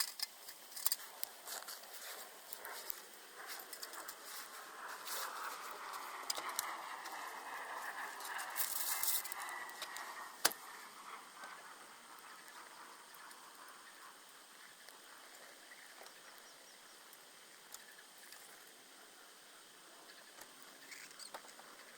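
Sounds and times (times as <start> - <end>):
wood fire crackling in stove: 0.0 - 21.9.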